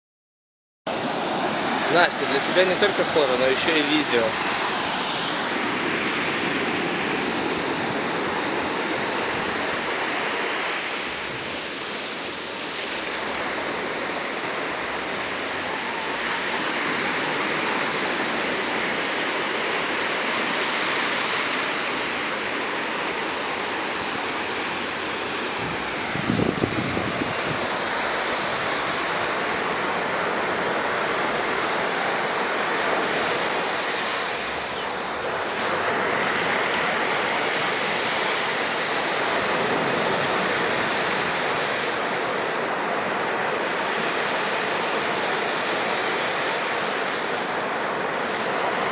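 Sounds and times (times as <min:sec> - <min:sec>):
waves breaking on beach: 0:00.9 - 0:48.9.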